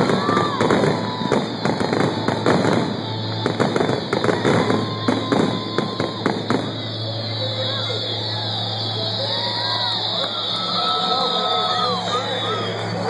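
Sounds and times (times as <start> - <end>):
fireworks bursting with sharp bangs: 0.0 - 10.5.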